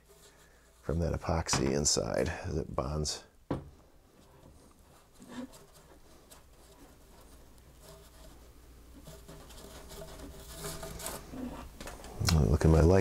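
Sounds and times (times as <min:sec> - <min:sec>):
cardboard tube scraping: 0:00.0 - 0:02.2, 0:04.1 - 0:12.8.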